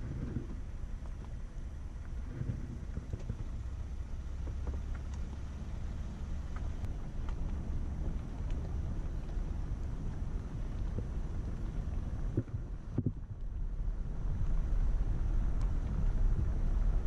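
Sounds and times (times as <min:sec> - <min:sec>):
vehicle rumbling over wooden bridge: 0:00.0 - 0:17.0.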